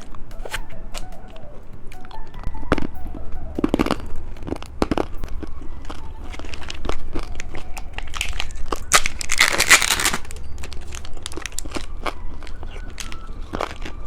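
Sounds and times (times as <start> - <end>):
candy crunching: 0.0 - 14.0
plastic wrapper crinkling: 0.0 - 14.0.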